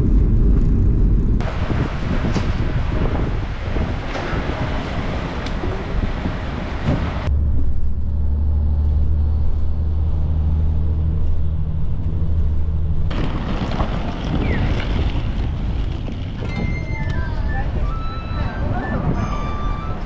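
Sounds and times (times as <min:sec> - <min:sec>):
bus engine drone: 0:00.0 - 0:20.0
street traffic: 0:00.0 - 0:20.0.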